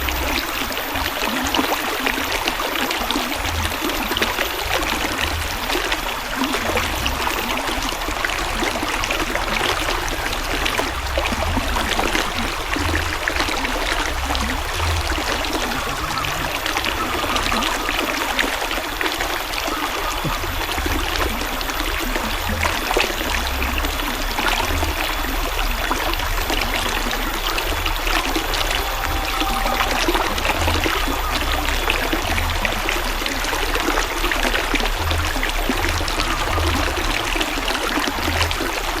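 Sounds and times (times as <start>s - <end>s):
river water flowing: 0.0s - 39.0s.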